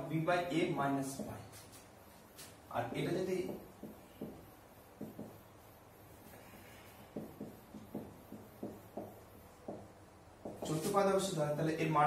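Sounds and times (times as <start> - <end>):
marker pen writing on whiteboard: 1.0 - 11.3.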